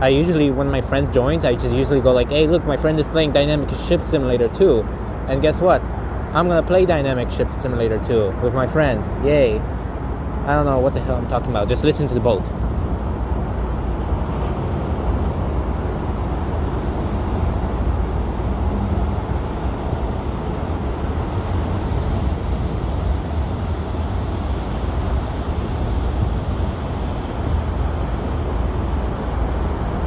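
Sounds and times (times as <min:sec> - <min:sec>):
ship engines rumbling: 0:00.0 - 0:30.0.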